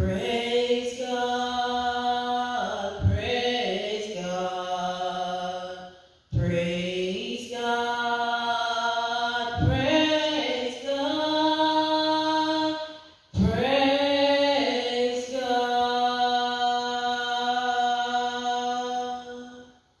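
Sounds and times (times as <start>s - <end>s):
woman singing into microphone: 0.0s - 19.6s.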